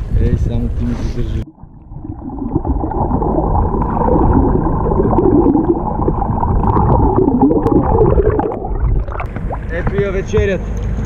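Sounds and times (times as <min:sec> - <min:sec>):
muffled underwater water rumble: 0:00.0 - 0:11.0
underwater bubbling: 0:01.2 - 0:10.0.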